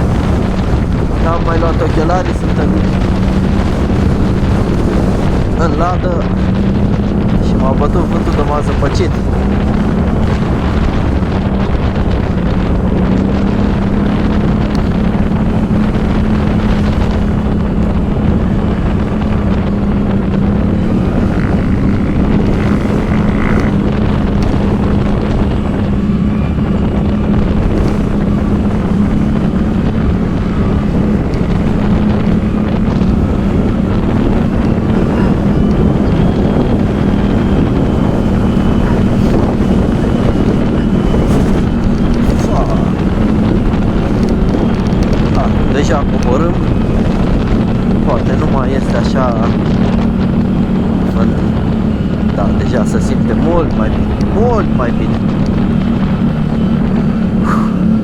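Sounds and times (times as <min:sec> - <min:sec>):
atv engine running: 0:00.0 - 0:58.0
wind buffeting microphone: 0:00.0 - 0:58.0.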